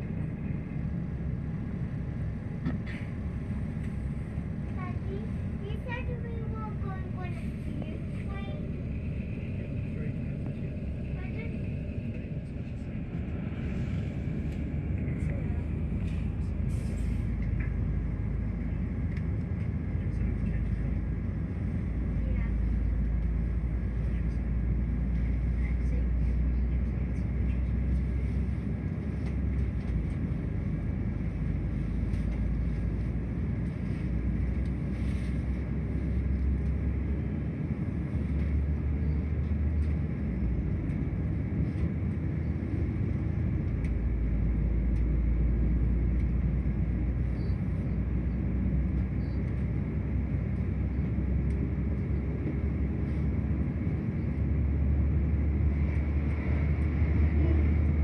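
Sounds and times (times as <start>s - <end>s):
diesel engine rumble: 0.0s - 58.0s
train passing alongside: 0.0s - 58.0s
train wheels on track: 0.0s - 58.0s.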